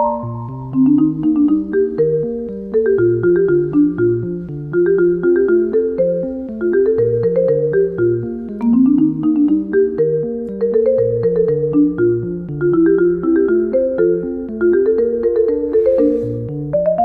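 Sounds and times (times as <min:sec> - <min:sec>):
light bouncy background music: 0:00.0 - 0:17.0.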